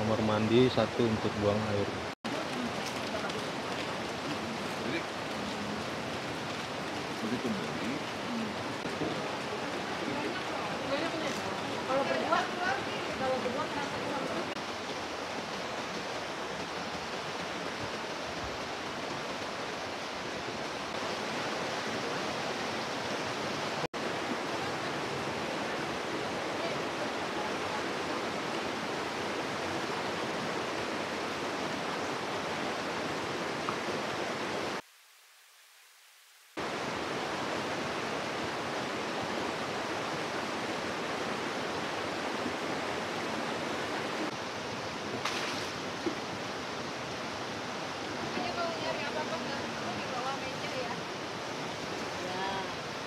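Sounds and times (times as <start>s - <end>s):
river water rushing: 0.0s - 34.8s, 36.6s - 53.0s.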